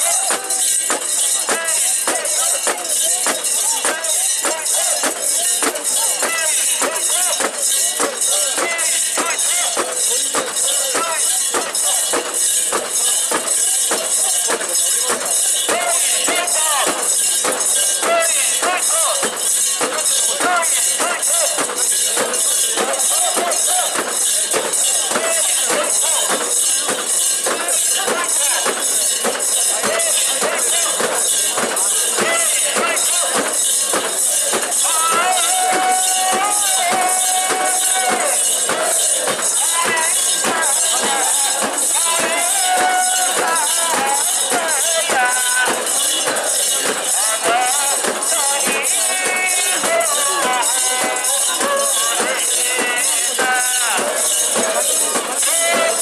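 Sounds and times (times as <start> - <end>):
crowd chanting: 0.0 - 56.0
metal fittings jangling: 0.0 - 56.0.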